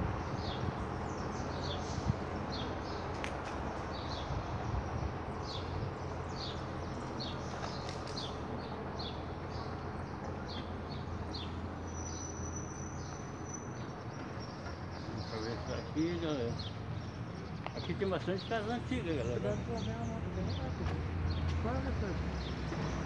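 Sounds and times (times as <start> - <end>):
bird chirping: 0.2 - 21.5.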